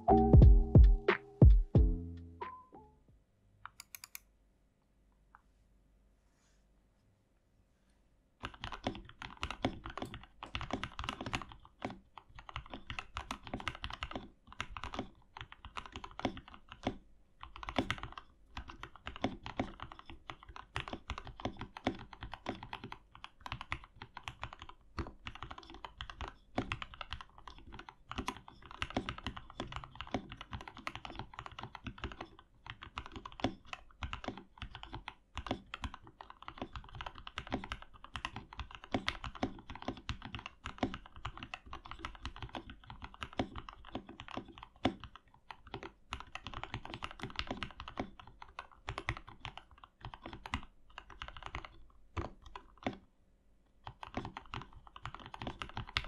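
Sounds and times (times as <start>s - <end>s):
mechanical keyboard typing: 3.6s - 4.2s, 8.4s - 53.0s, 53.8s - 56.0s.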